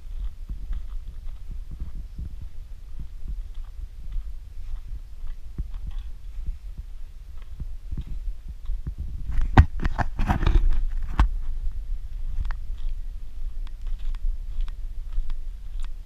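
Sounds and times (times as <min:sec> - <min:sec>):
wind rumble on microphone: 0:00.0 - 0:16.0
sharp knocks and crunching: 0:00.1 - 0:11.6, 0:13.6 - 0:16.0.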